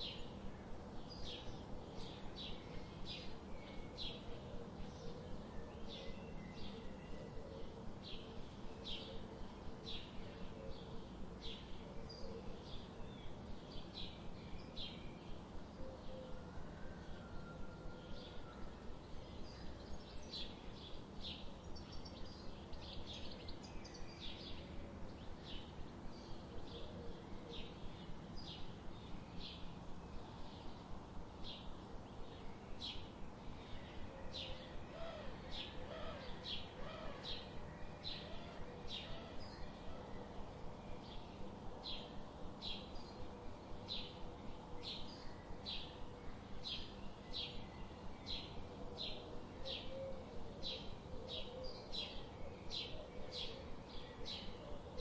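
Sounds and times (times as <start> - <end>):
low background noise: 0.0 - 55.0.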